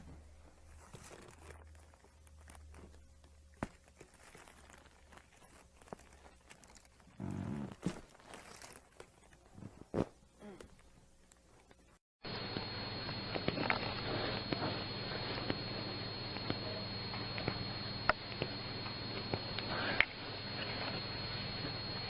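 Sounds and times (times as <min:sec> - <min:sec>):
faint room hum: 0:00.0 - 0:22.0
rustling and handling noise: 0:00.0 - 0:22.0.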